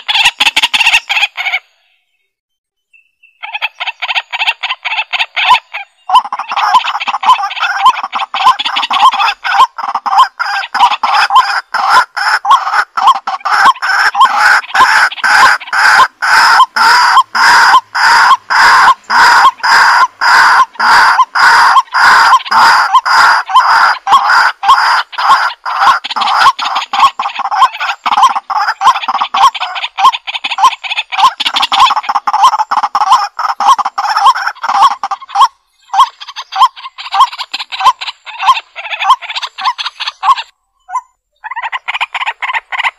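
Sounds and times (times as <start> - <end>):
flock of fowl calling: 0.0 - 1.8, 3.4 - 42.9.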